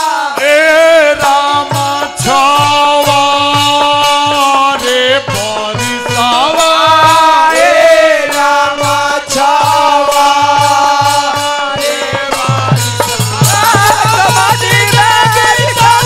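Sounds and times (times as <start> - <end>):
dholak drum beat: 0.0 - 16.0
hand cymbals: 0.0 - 16.0
harmonium: 0.0 - 16.0
voices singing: 0.0 - 16.0.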